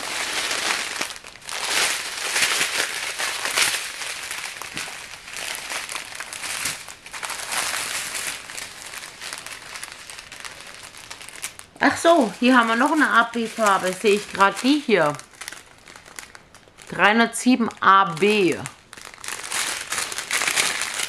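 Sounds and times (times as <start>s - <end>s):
plastic packaging crinkling: 0.0s - 21.0s.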